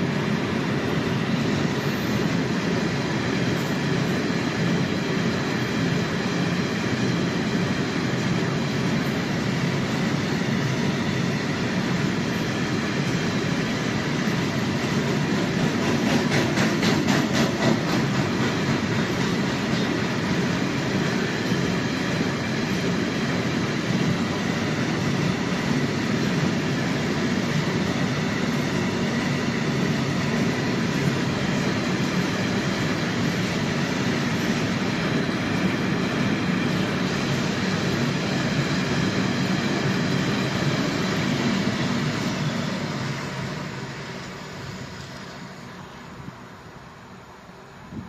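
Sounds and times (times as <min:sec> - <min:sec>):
train wheels running on rails: 0:00.0 - 0:48.0.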